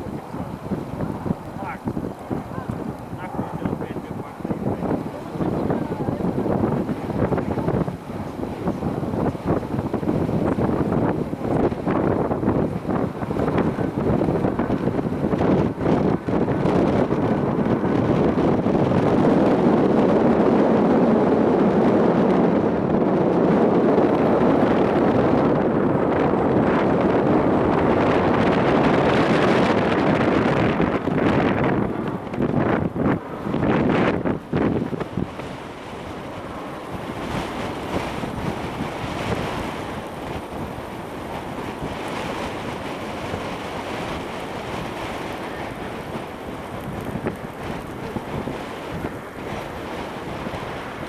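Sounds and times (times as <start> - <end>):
jet engines roaring: 0.0 - 51.0
wind buffeting microphone: 0.0 - 51.0.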